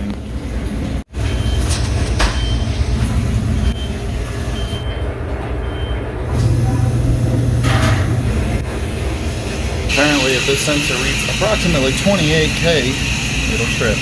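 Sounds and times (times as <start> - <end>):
low machine rumble: 0.0 - 14.0.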